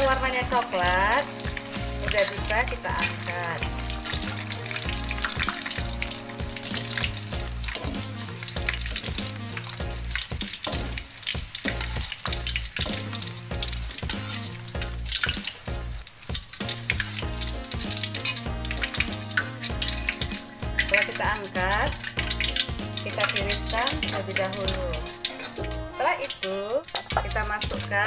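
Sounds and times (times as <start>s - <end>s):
background music with low beat: 0.0s - 26.0s, 27.0s - 28.0s
oil sizzling in a wok: 0.0s - 28.0s.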